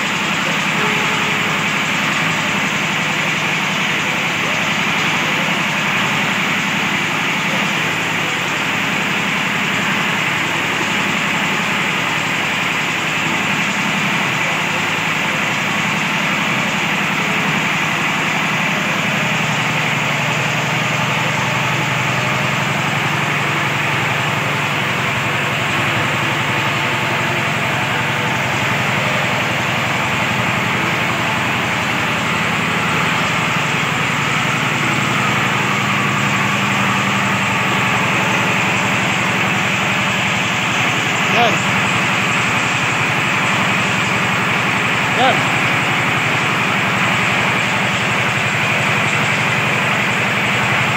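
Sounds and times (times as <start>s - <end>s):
diesel engine of drilling rig: 0.0s - 50.9s.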